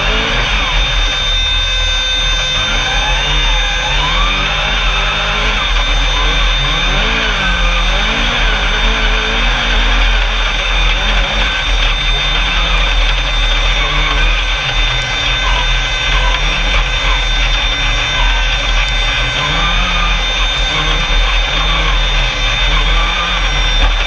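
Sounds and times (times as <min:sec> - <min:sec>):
chassis rumble and rattle: 0:00.0 - 0:24.0
racing buggy engine revving: 0:00.0 - 0:24.0.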